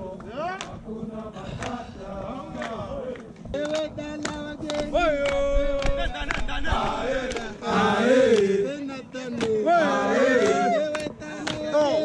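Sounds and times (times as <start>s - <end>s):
men chanting and singing: 0.0s - 12.0s.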